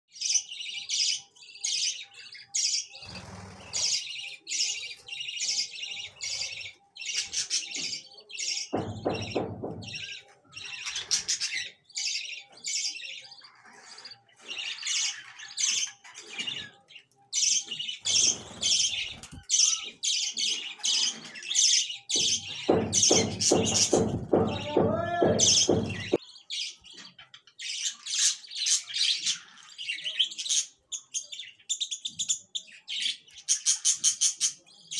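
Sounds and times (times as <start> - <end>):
small birds chirping rapidly: 0.1 - 34.9.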